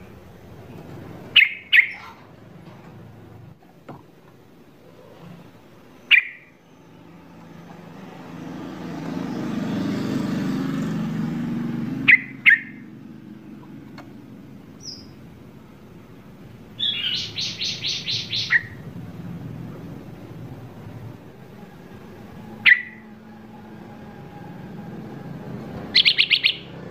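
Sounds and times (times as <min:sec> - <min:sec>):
birds chirping: 0:00.0 - 0:03.5, 0:04.2 - 0:26.9.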